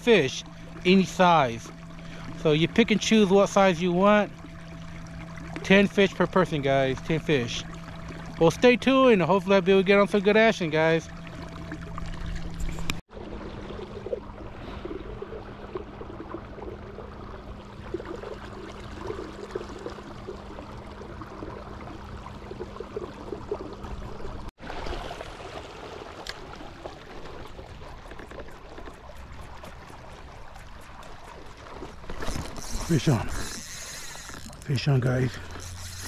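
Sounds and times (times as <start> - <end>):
low hum: 0.0 - 36.0
water lapping against kayak hull: 0.0 - 36.0.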